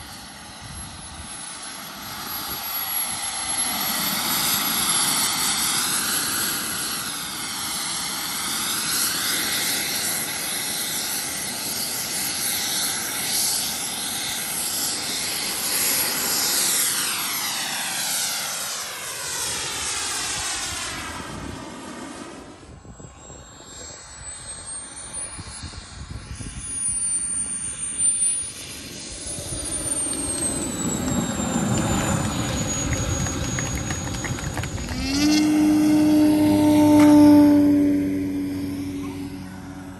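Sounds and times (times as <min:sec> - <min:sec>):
model jet turbine whining: 0:00.0 - 0:39.9.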